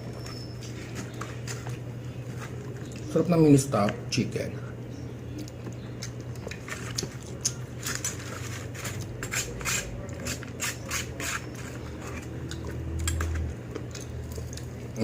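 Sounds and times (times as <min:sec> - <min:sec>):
chewing crispy food: 0:00.0 - 0:03.2, 0:05.2 - 0:15.0
steady low hum: 0:00.0 - 0:15.0.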